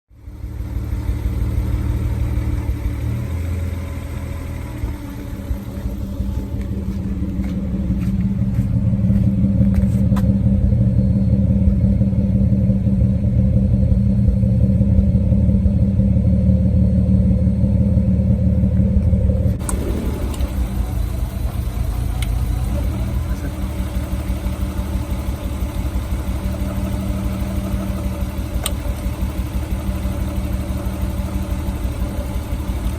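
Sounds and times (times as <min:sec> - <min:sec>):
car engine misfiring: 0:00.2 - 0:32.9.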